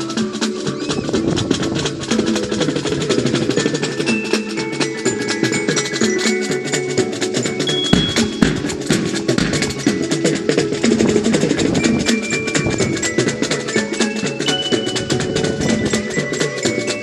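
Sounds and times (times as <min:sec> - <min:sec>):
glockenspiel notes: 0:00.0 - 0:17.0
marching jazz band playing: 0:00.0 - 0:17.0.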